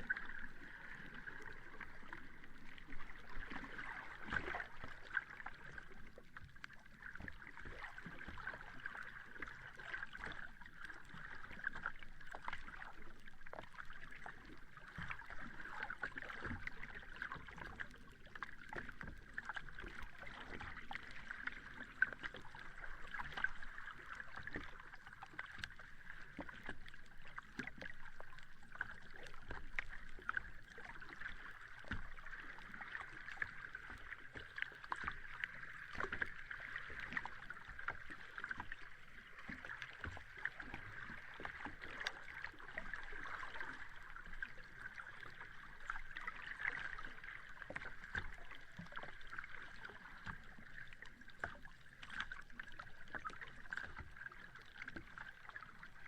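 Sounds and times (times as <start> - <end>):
sea water lapping at shore: 0.0 - 56.0.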